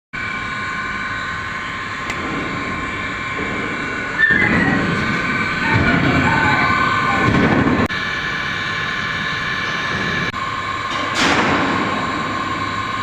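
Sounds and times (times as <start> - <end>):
welding whine and hiss: 0.2 - 13.0.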